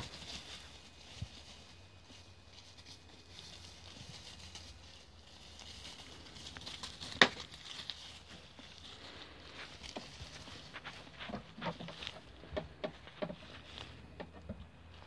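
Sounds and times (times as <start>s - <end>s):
sheep rustling through dry leaves: 0.0s - 15.0s.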